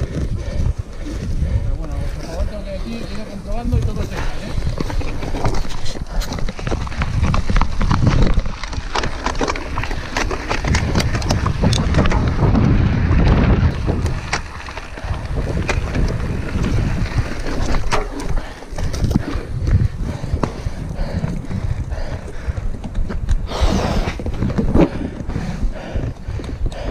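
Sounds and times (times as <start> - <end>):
bike clicks and rattles: 0.0 - 26.9
wind rumbling on microphone: 0.0 - 26.9.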